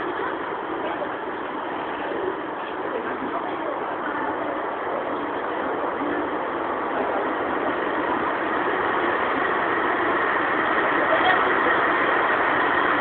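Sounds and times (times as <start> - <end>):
train steady noise: 0.0 - 13.0.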